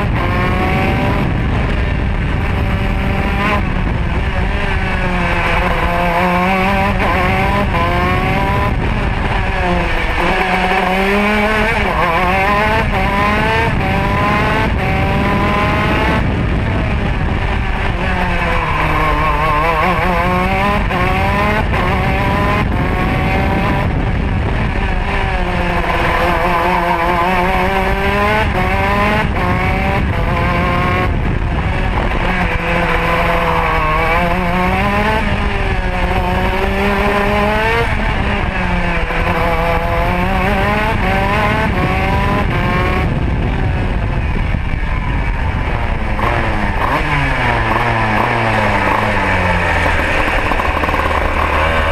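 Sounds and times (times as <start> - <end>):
kart engine revving: 0.0 - 51.9
wind rushing on microphone: 0.0 - 51.9.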